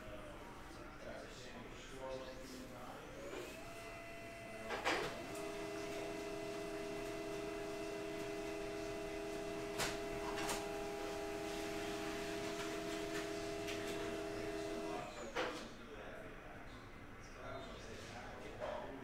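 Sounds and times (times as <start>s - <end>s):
small machine electric hum: 0.0s - 15.4s.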